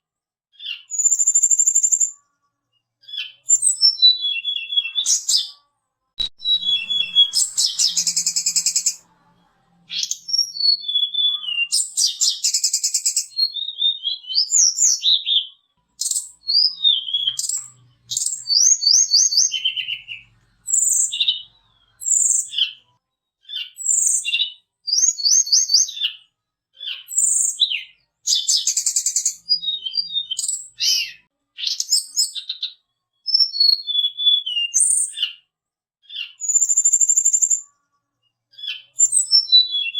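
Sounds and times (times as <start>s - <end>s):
songbird singing: 0.6s - 5.6s, 6.2s - 22.9s, 23.5s - 35.4s, 36.1s - 37.7s, 38.6s - 39.9s.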